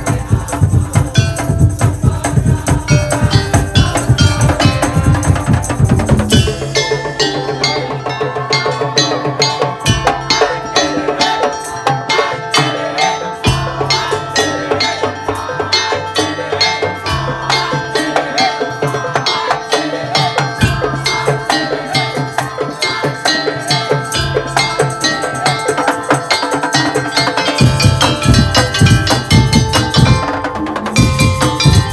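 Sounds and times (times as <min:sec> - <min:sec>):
wavering melody: 0:00.0 - 0:31.9.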